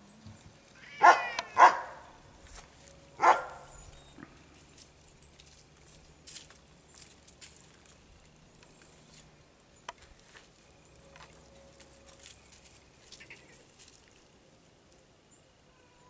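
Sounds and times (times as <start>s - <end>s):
dry leaves rustling: 0.6s - 15.0s.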